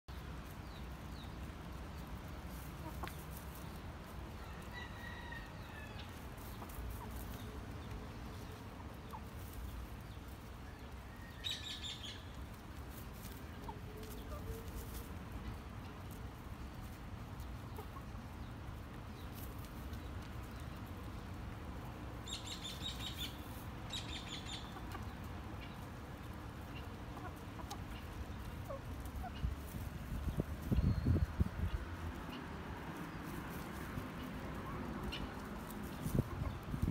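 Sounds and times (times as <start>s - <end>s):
chickens clucking quietly: 0.1s - 36.9s.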